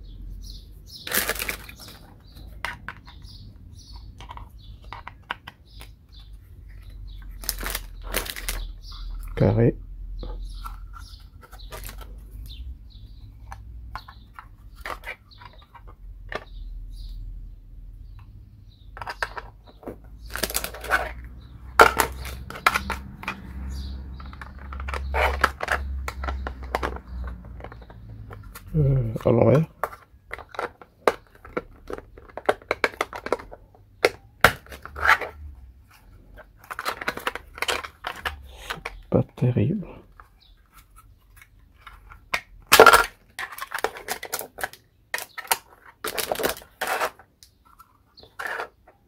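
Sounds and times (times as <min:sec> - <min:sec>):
plastic parts clicking and knocking: 0:01.0 - 0:09.5, 0:10.2 - 0:12.6, 0:13.3 - 0:17.2, 0:18.1 - 0:39.4, 0:40.0 - 0:49.0.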